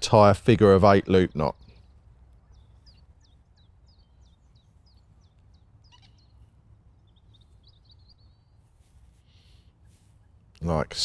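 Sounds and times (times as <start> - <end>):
small bird singing: 1.0 - 10.7.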